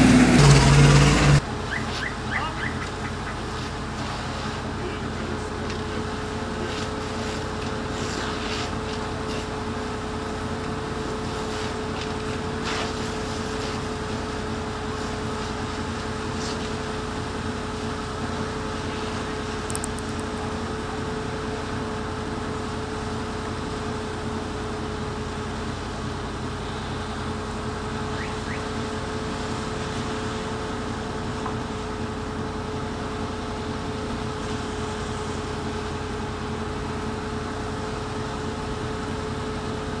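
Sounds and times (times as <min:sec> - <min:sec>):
distant pump engine droning: 0:00.0 - 0:40.0.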